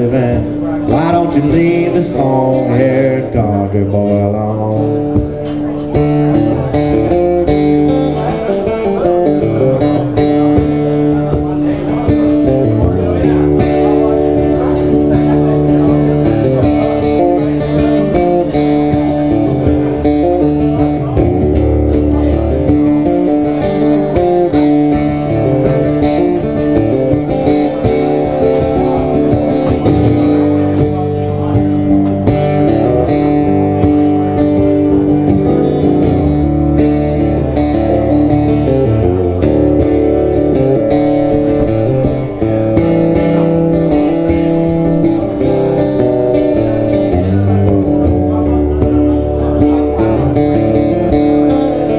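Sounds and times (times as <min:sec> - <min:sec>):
acoustic guitar strumming chords: 0:00.0 - 0:51.9.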